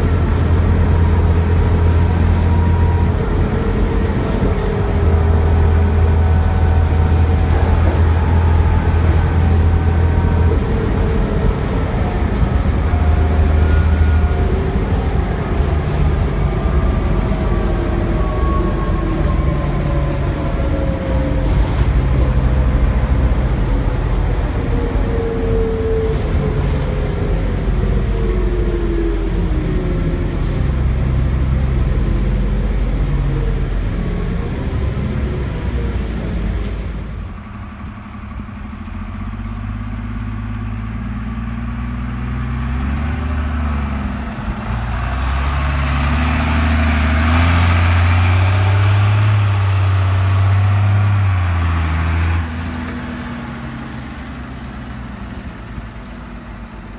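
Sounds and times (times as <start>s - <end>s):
diesel bus engine: 0.0s - 56.9s.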